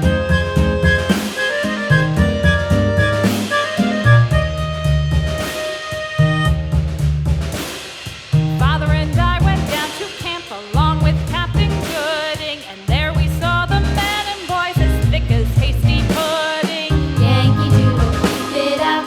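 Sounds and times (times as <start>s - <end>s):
song with bass and drum beat: 0.0s - 19.0s.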